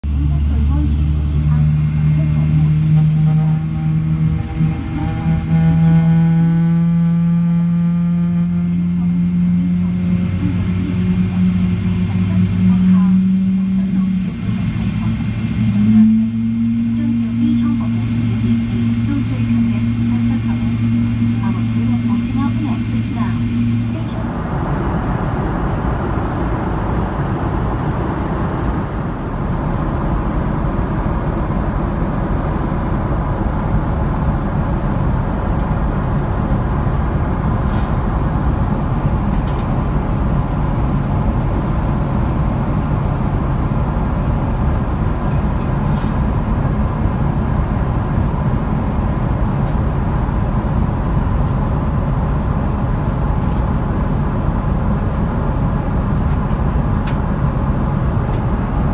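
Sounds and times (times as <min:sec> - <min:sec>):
low rumble: 0:00.0 - 0:58.9
airplane cabin airflow hiss: 0:09.9 - 0:58.9.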